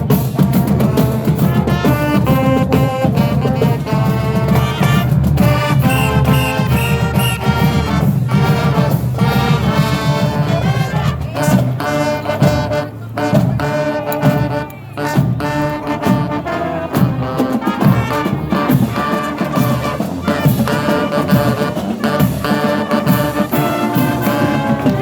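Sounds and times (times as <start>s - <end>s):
drum strokes: 0.0s - 25.0s
trombones and trumpets: 0.0s - 25.0s.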